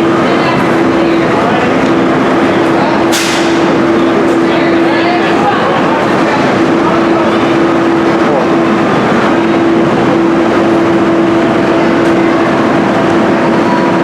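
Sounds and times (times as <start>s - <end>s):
mechanical drone: 0.0s - 14.0s.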